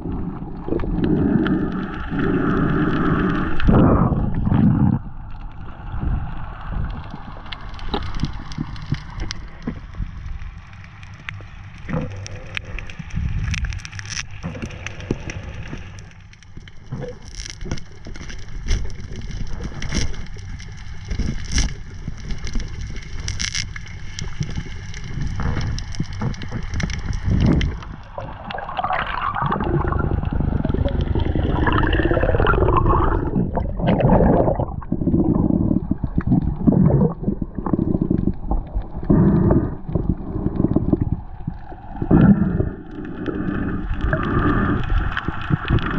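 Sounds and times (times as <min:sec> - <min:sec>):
underwater clicks and crackling: 0:00.0 - 0:45.9
water bubbling and gurgling: 0:00.0 - 0:45.9.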